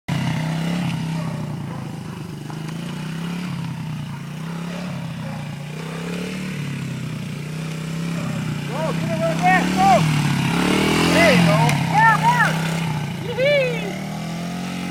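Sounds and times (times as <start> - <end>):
dirt bike engine revving: 0.1 - 14.9.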